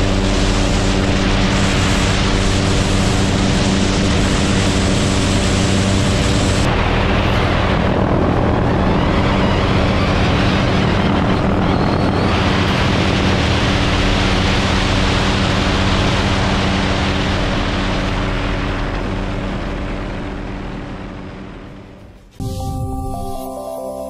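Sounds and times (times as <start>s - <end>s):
aircraft engine drone: 0.0s - 23.6s.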